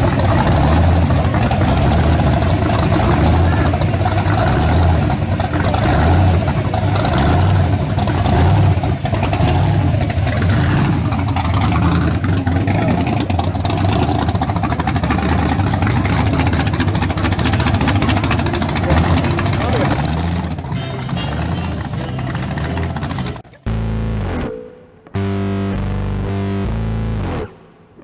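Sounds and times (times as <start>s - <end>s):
supercharged car engine loping idle: 0.0s - 24.4s.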